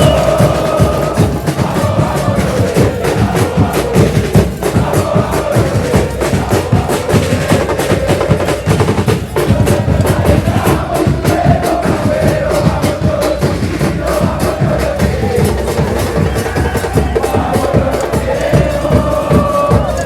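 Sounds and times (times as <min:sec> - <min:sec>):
bass drums and snares pounding: 0:00.0 - 0:20.0
crowd chanting in unison: 0:00.0 - 0:20.0.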